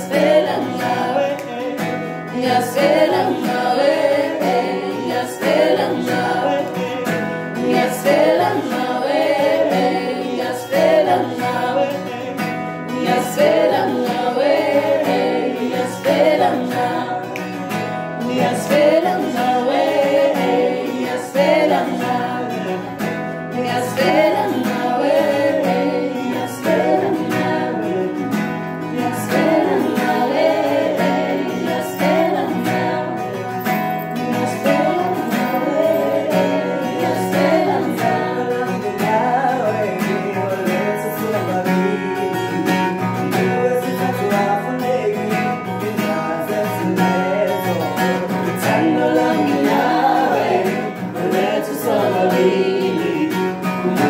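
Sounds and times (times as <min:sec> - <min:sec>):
young man singing: 0:00.0 - 0:17.4, 0:18.2 - 0:54.0
acoustic guitar: 0:00.0 - 0:54.0.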